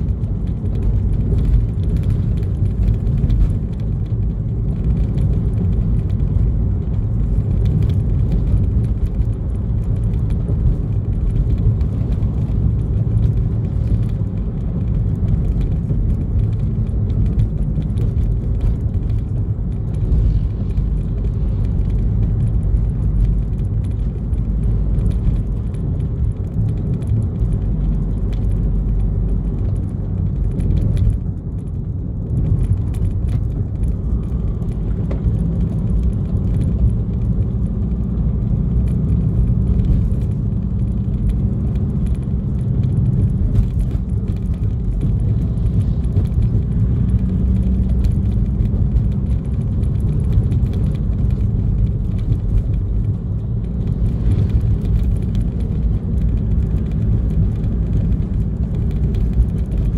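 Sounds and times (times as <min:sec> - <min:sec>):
light rattles and clicks: 0:00.0 - 0:59.9
vehicle engine and road noise: 0:00.0 - 0:59.9.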